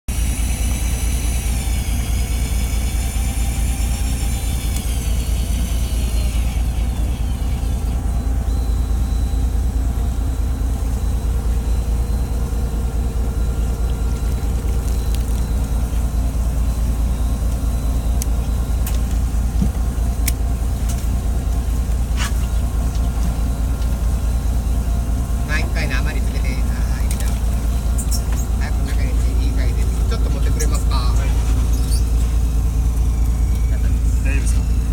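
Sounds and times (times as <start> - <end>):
boat engine rumbling: 0.0 - 34.9
high wavering whine: 0.1 - 34.9.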